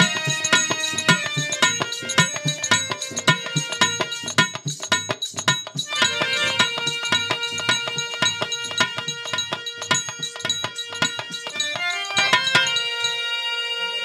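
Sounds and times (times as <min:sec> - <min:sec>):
harmonium melody: 0:00.0 - 0:04.4, 0:05.9 - 0:14.0
dholak drum rhythm: 0:00.0 - 0:13.3.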